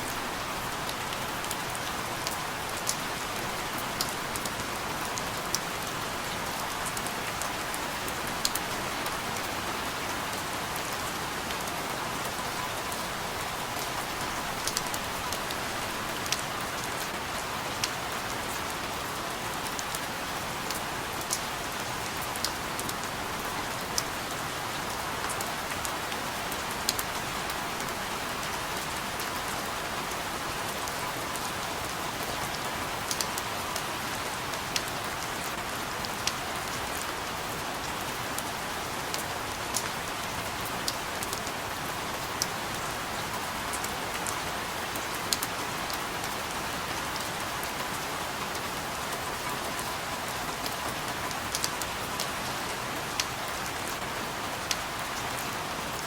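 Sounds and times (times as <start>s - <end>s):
steady rain hiss: 0.0s - 56.0s
raindrops ticking on surface: 0.8s - 18.8s, 19.6s - 56.0s.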